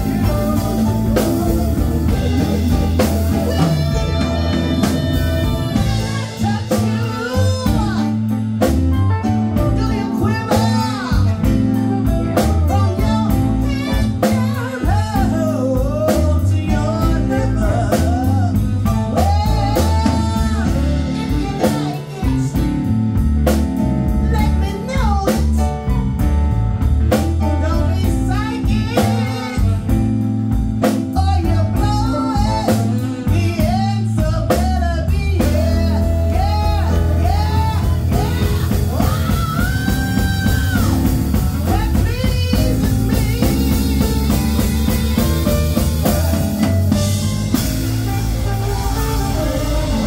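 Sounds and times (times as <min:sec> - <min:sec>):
person singing: 0:00.0 - 0:08.8, 0:09.4 - 0:23.1, 0:24.1 - 0:26.3, 0:27.4 - 0:50.0
live band playing: 0:00.0 - 0:50.0.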